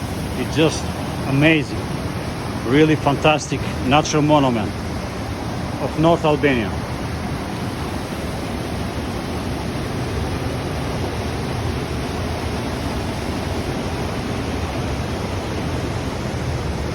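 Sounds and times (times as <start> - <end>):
rushing mountain water: 0.0 - 16.9.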